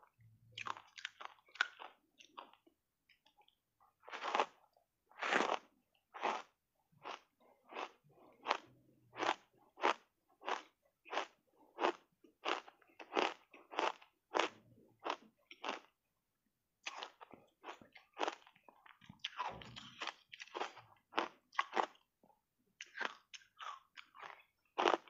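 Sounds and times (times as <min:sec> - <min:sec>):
ice crunching while chewed: 0:00.6 - 0:15.9, 0:16.8 - 0:22.1, 0:22.8 - 0:25.0.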